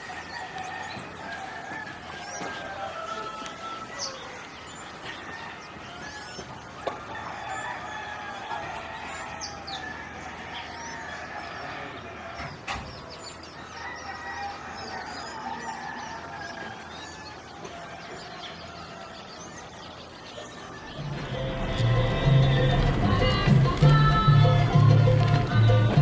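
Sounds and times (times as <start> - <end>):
roosters crowing: 0.0 - 26.0
small birds chirping: 0.0 - 26.0.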